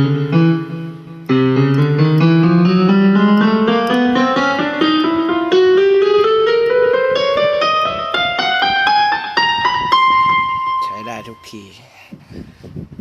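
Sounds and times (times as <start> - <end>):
keyboard quick rising notes: 0.0 - 11.5.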